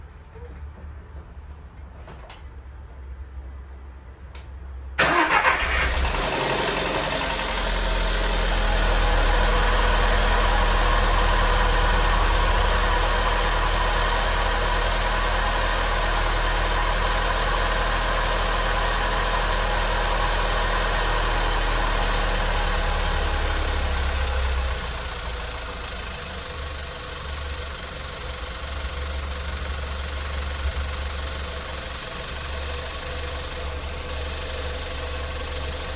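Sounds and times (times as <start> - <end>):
car engine starting and idling: 5.0 - 35.9.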